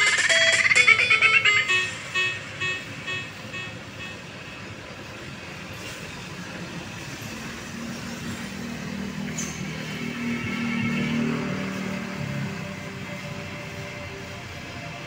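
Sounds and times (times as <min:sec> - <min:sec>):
road traffic noise: 0:00.0 - 0:15.0
truck diesel engine passing: 0:00.0 - 0:15.0.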